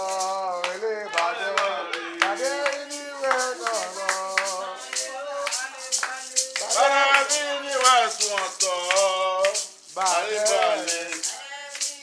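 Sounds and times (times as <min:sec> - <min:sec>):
rattle shaken: 0:00.0 - 0:12.0.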